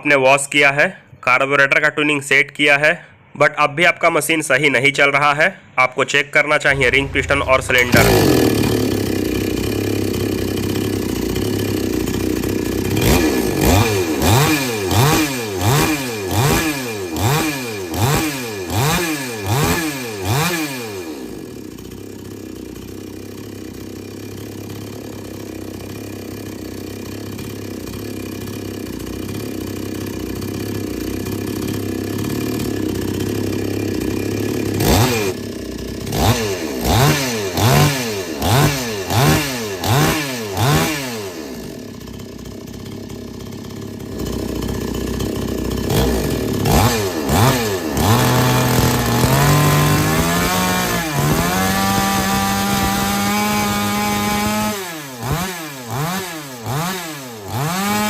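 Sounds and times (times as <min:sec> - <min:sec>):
chainsaw engine revving and idling: 0:06.6 - 0:58.0.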